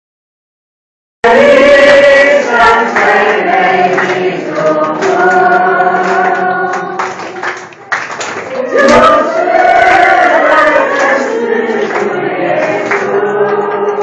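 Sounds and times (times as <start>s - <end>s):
group singing a hymn: 1.2s - 7.7s, 8.3s - 14.0s.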